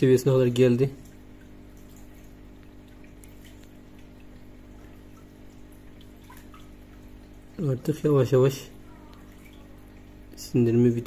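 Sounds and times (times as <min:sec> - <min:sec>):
faint trickling water: 0:00.0 - 0:11.0
low equipment hum: 0:00.0 - 0:11.0
water drips: 0:00.0 - 0:11.0.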